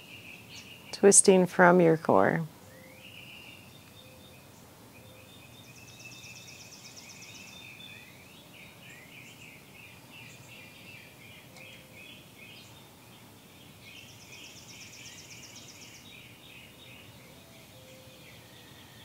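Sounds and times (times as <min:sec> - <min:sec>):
birds chirping: 0:00.0 - 0:19.0
low background hiss: 0:00.0 - 0:19.0.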